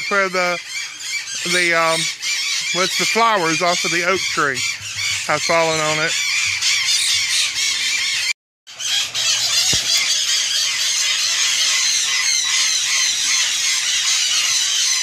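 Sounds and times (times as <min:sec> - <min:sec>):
parrots chattering and squealing: 0:00.0 - 0:15.0.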